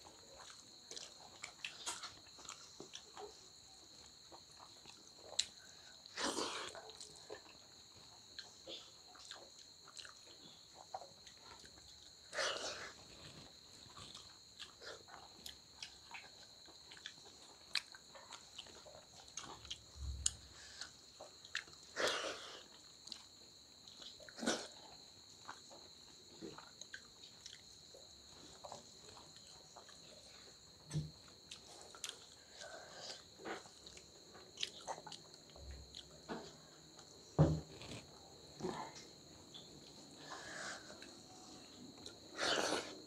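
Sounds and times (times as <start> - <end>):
people chewing: 0.0 - 43.0.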